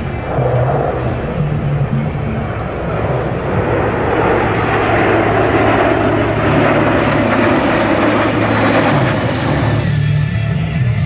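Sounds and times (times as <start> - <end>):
jet aircraft passing overhead: 0.0 - 11.0.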